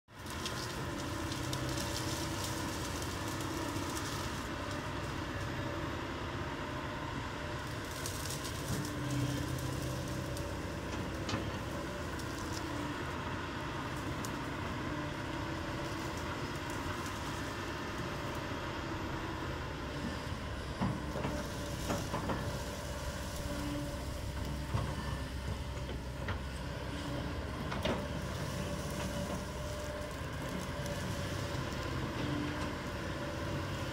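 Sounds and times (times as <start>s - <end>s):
excavator running: 0.1s - 33.9s.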